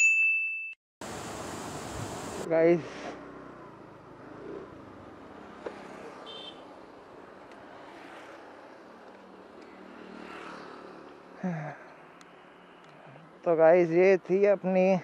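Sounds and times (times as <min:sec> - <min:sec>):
motorbike passing: 0:01.0 - 0:14.1
faint road traffic noise: 0:01.0 - 0:15.0.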